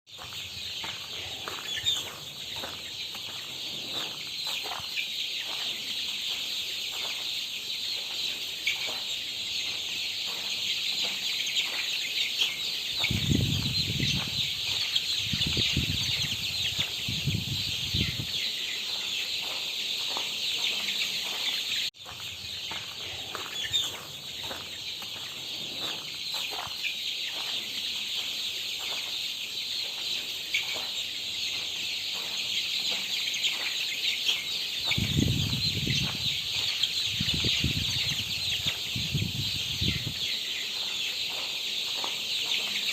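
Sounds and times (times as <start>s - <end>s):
chicks peeping: 0.1s - 42.9s.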